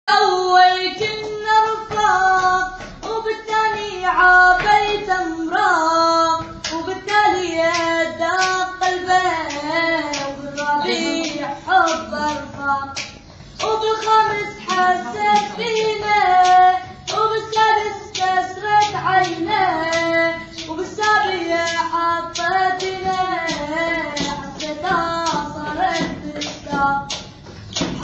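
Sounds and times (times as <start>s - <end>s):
high voice singing: 0.1s - 28.0s
sharp claps beat: 0.8s - 28.0s.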